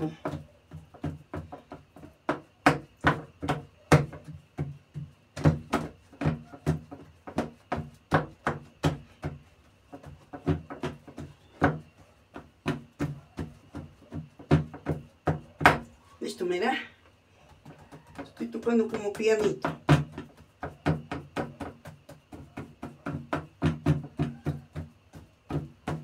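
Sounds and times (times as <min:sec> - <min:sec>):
hands tapping dough in metal tray: 0:00.0 - 0:15.9, 0:17.5 - 0:26.0.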